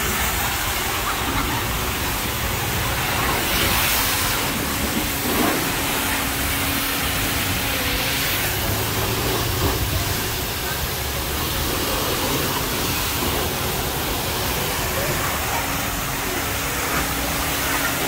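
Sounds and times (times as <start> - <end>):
pressure washer spraying water: 0.0 - 18.0.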